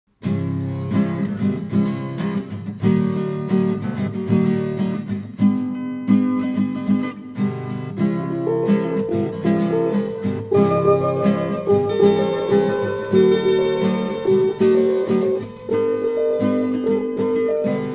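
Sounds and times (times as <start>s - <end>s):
acoustic guitar chords: 0.2s - 17.9s.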